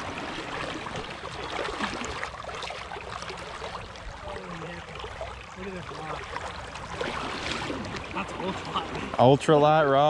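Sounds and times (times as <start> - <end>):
river water rushing: 0.0 - 9.8
water crackles and splashes: 0.0 - 10.0.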